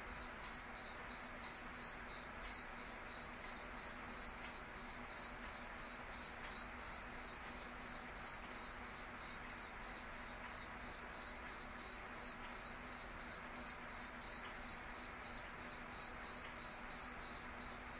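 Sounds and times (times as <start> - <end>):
cricket chirping: 0.1 - 17.9.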